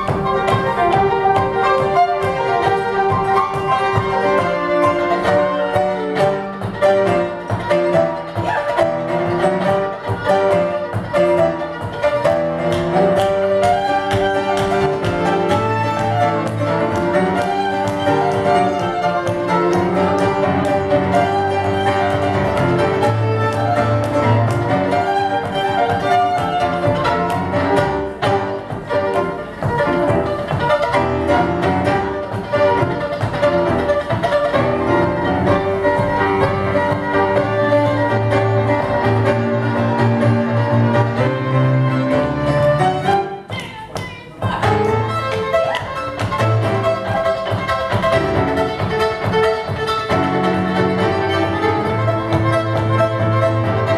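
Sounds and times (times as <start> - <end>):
fiddle melody: 0.0 - 53.9
piano accompaniment: 0.0 - 53.9.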